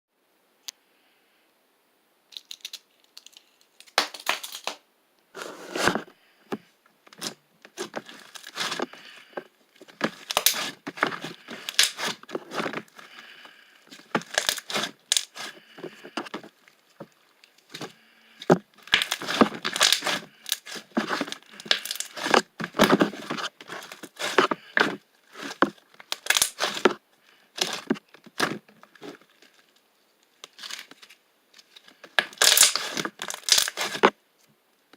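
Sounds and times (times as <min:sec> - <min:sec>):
crinkling and crackling: 0:05.4 - 0:34.9.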